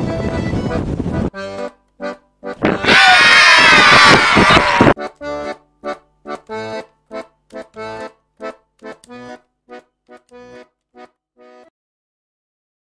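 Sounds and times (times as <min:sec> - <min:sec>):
accordion chords: 0:00.0 - 0:03.4, 0:04.2 - 0:11.7.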